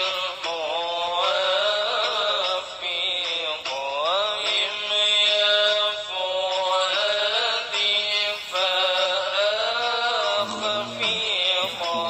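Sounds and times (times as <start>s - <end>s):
person singing chant-like melody: 0.0s - 12.0s.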